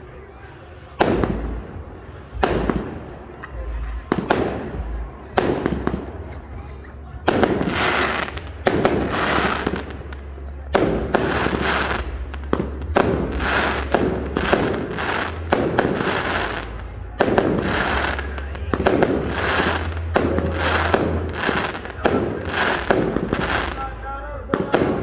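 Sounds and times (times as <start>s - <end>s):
fireworks explosions: 0.0s - 25.0s
steady low rumble: 0.0s - 25.0s.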